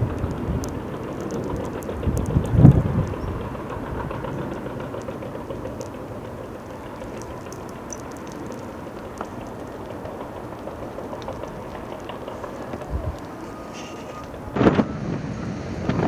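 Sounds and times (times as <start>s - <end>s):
track clicks: 0.0s - 14.8s
bulldozer engine and drive: 0.0s - 16.0s.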